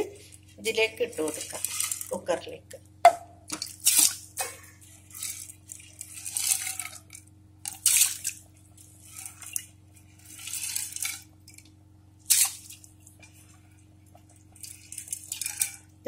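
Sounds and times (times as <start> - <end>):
splashes and scrapes in a pot: 0.0 - 2.4, 3.4 - 16.0
faint steady hum: 0.0 - 16.0.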